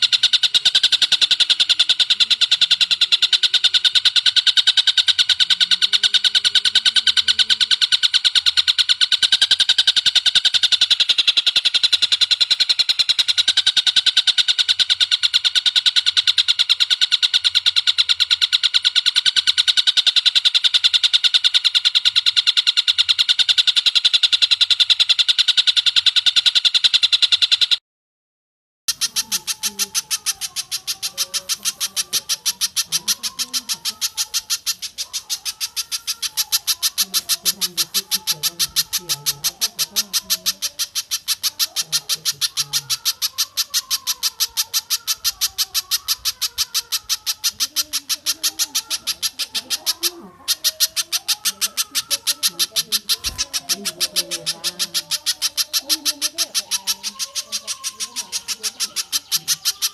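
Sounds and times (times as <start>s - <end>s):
bird call with repeated high notes: 0.0s - 27.8s, 28.9s - 59.9s.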